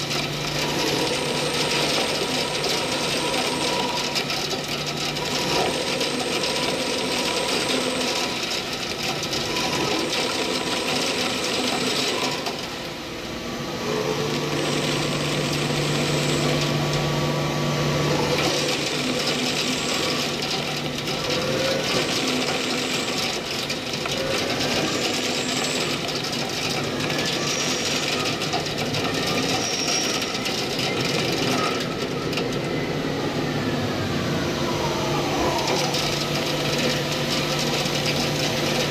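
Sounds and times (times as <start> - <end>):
lathe cutting metal: 0.0 - 13.1, 13.7 - 38.9.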